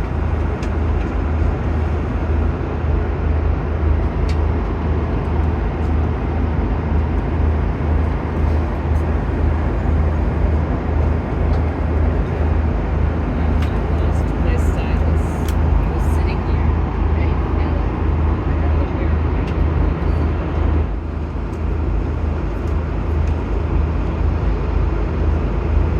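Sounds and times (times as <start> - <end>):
vehicle cabin rumble: 0.0 - 25.9.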